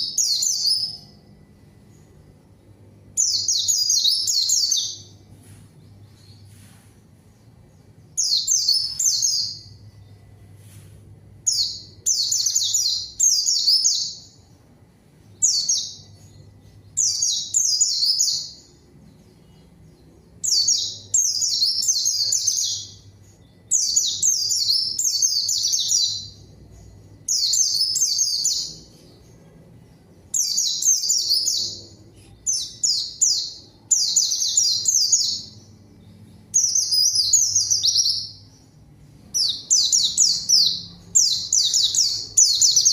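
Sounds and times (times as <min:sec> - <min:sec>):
bird singing high song phrases: 0:00.0 - 0:42.9.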